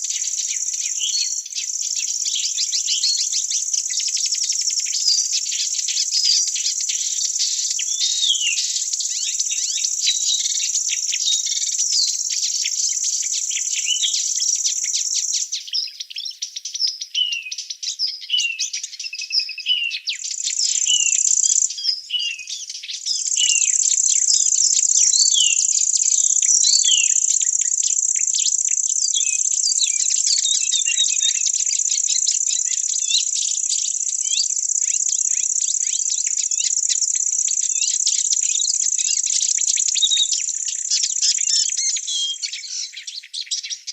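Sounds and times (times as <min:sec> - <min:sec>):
insect trilling: 0:00.0 - 0:15.5, 0:20.2 - 0:21.8, 0:23.1 - 0:42.9
small birds chirping: 0:00.0 - 0:43.9.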